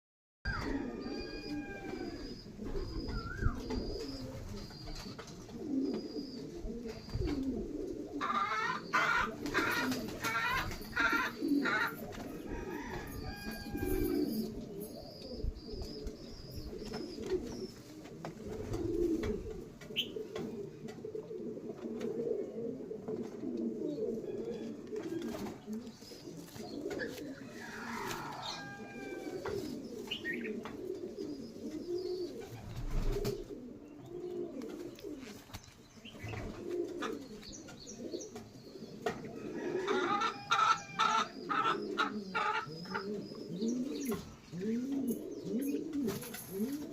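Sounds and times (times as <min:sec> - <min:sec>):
pigeons cooing: 0:00.5 - 0:46.9.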